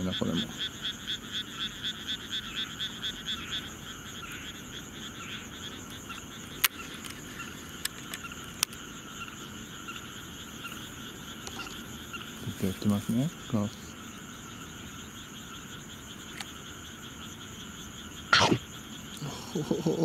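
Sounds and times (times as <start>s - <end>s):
frogs croaking: 0.0s - 20.0s.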